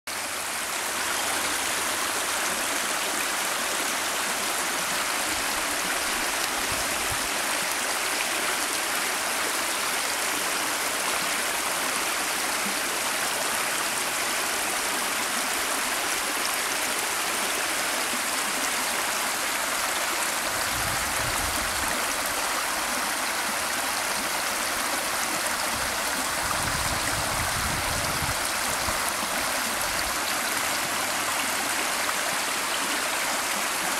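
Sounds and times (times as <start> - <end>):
creek water running: 0.1 - 33.9.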